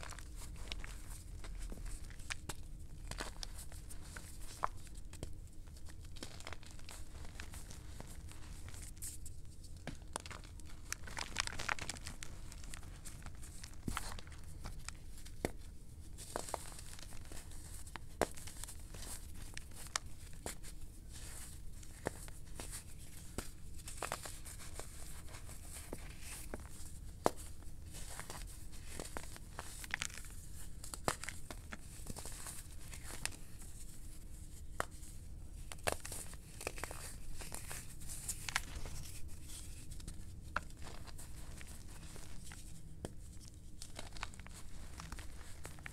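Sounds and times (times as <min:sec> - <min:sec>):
chalk crunching and crumbling: 0:00.0 - 0:45.9.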